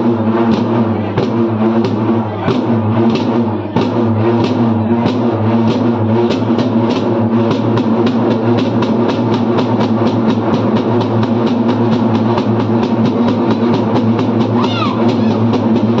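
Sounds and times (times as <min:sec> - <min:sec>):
quick steady drumbeat: 0:00.0 - 0:16.0.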